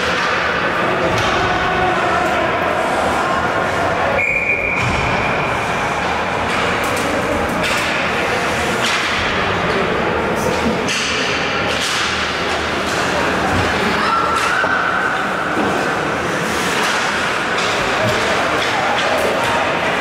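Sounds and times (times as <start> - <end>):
rink crowd din: 0.0 - 20.0.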